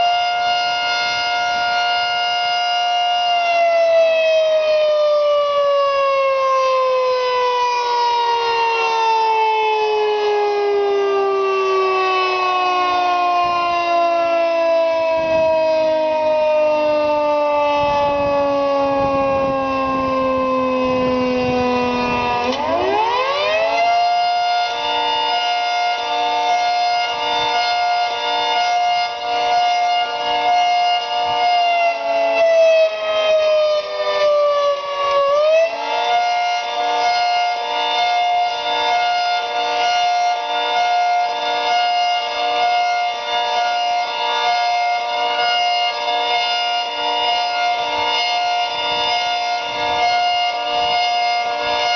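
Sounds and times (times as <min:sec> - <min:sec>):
three-tone siren chord pulsing: 0:00.0 - 0:51.9.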